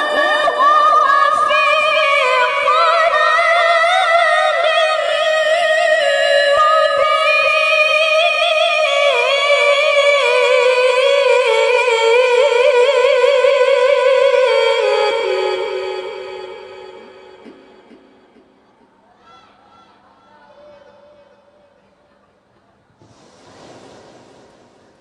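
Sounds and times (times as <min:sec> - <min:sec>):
woman reciting melodically: 0:00.0 - 0:20.1.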